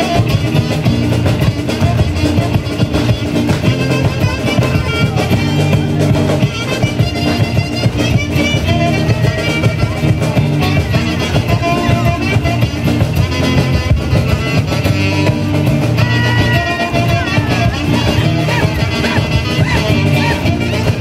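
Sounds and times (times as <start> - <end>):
drum beat: 0.0 - 21.0
folk band playing dance music: 0.0 - 21.0
guitar: 0.0 - 21.0.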